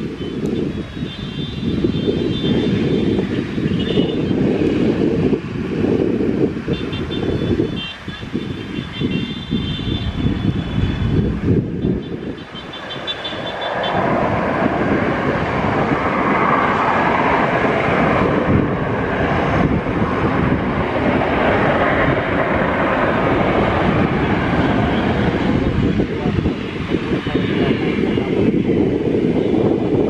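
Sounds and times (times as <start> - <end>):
jet engines at take-off power: 0.0 - 30.0.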